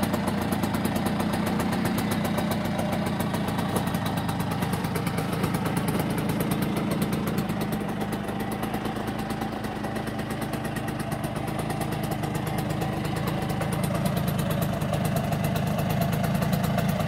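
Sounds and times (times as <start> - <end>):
moped engine idling: 0.0 - 17.0.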